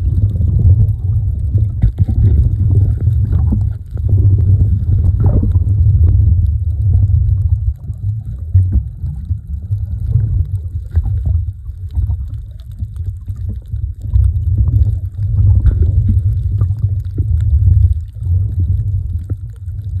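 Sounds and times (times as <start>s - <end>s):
muffled underwater rumble: 0.0s - 20.0s.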